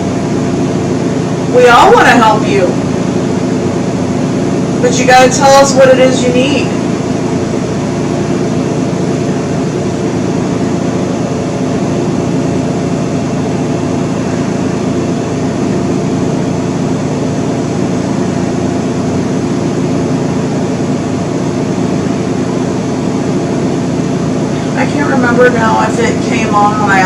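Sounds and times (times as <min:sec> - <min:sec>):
electric fan whirring: 0:00.0 - 0:27.0.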